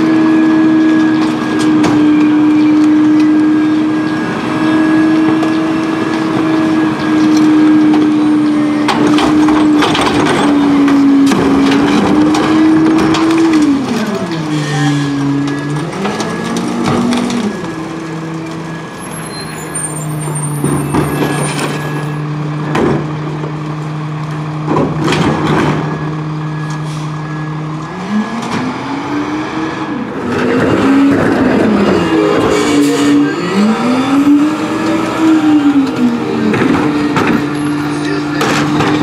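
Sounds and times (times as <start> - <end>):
diesel truck engine: 0.0 - 39.0.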